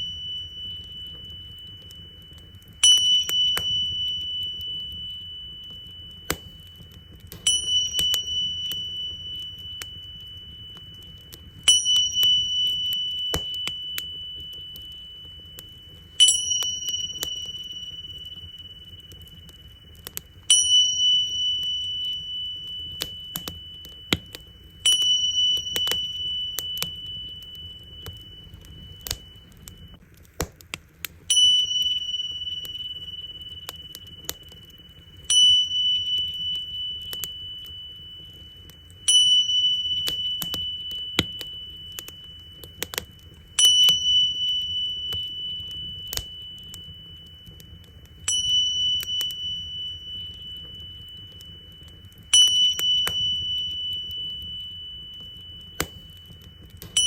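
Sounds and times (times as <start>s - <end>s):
small cymbals ringing: 0.0s - 30.0s, 31.2s - 57.0s
wood fire crackling: 0.0s - 57.0s.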